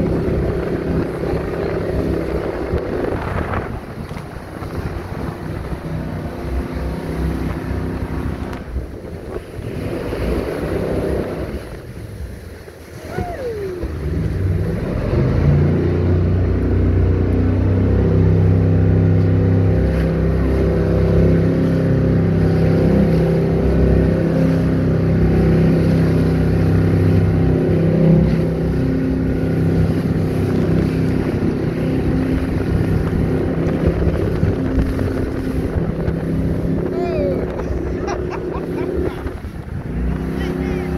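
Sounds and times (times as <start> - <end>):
boat engine running: 0.0 - 40.9
water rushing past: 0.0 - 40.9
wind buffeting microphone: 0.0 - 40.9.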